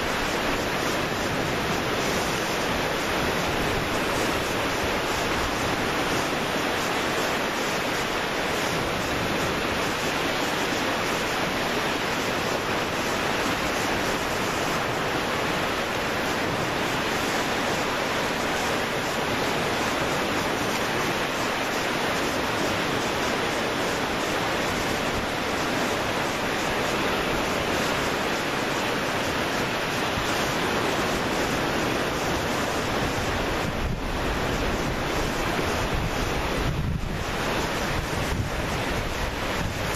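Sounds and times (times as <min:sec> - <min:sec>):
sea surf: 0:00.0 - 0:39.9
wind: 0:00.0 - 0:39.9.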